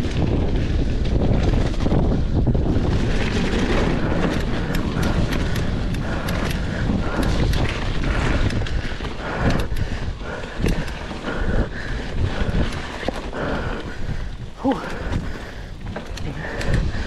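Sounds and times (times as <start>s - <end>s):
bike rattling: 0.0s - 17.0s
wind rushing over microphone: 0.0s - 17.0s.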